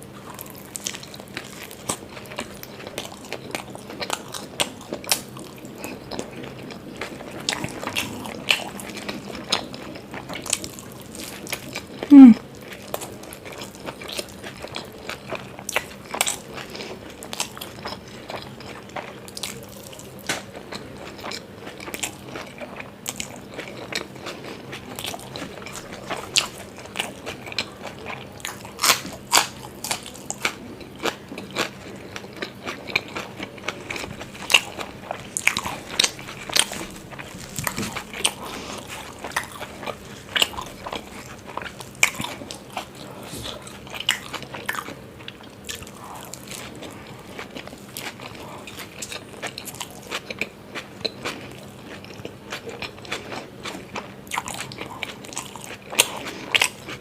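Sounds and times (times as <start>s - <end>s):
person chewing with crunches: 0.0s - 57.0s.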